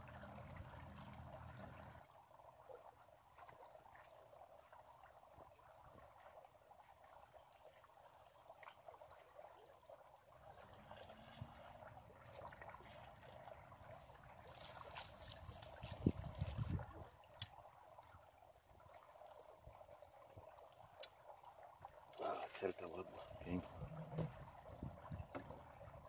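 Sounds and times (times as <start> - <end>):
river water lapping at boat: 0.0 - 26.0
water splashes: 0.0 - 26.0.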